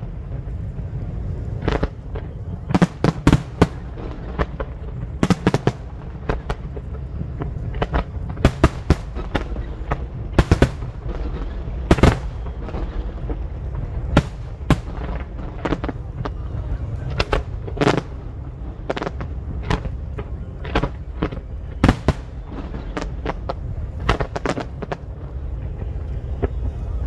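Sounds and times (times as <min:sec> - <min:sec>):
fireworks bangs: 0:00.0 - 0:26.7
low rumble: 0:00.0 - 0:27.0.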